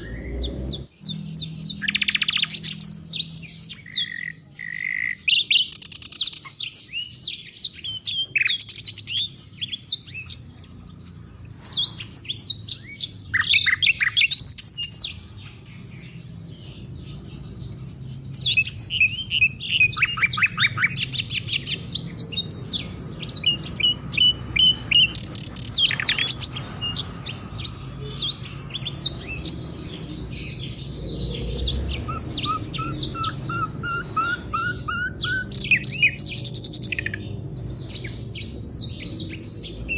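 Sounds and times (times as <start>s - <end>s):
lower repeated bird notes: 0.0s - 39.9s
songbirds chirping and trilling: 0.0s - 39.9s.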